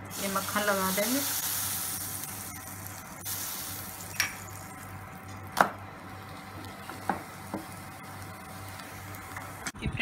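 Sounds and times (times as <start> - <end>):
butter sizzling faintly: 0.0 - 9.8.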